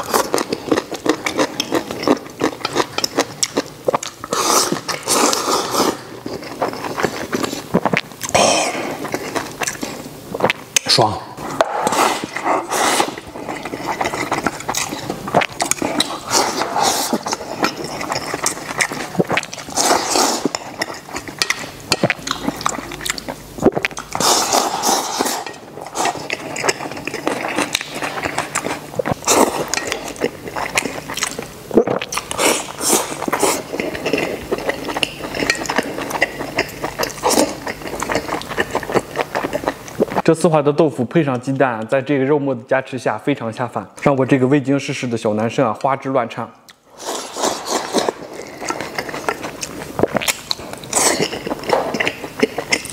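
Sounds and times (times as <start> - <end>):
chewing and mouth noises: 0.0 - 10.8, 11.4 - 40.2, 46.7 - 52.9.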